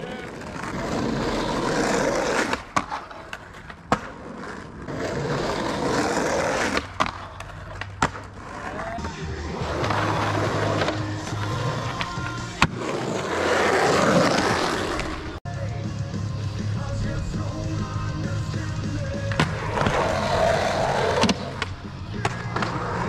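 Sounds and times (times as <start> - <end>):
skateboard clacks: 0.0 - 15.3, 19.2 - 23.0
skateboard trucks scraping ledge: 0.0 - 15.4, 19.2 - 23.0
skateboard wheels rolling on asphalt: 0.0 - 15.4, 16.6 - 23.0.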